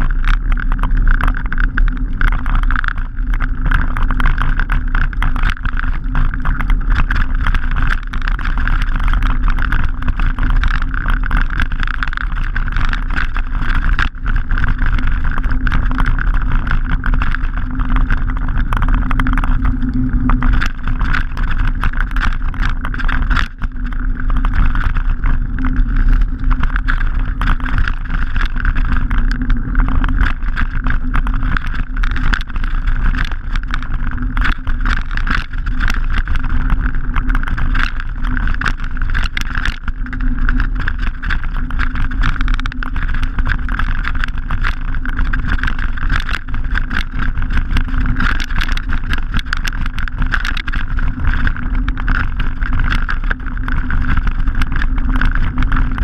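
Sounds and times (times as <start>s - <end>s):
stones clicking under tyres: 0.0s - 56.0s
wind and tyre rumble: 0.0s - 56.0s.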